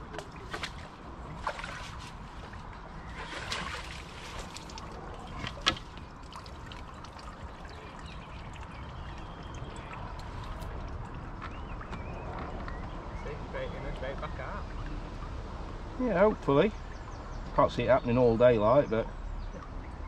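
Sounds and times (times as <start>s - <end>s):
water lapping at the edge: 0.0s - 20.0s.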